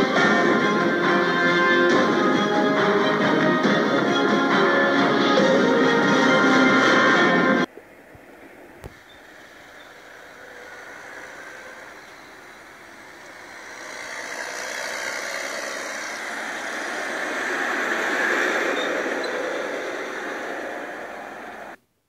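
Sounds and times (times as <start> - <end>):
tractor engine and tyres passing: 0.0 - 21.8.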